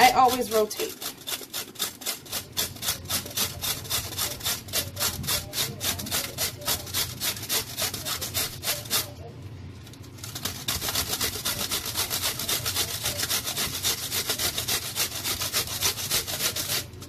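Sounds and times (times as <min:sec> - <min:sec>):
carrot grated on metal grater: 0:00.0 - 0:09.2, 0:10.1 - 0:17.0.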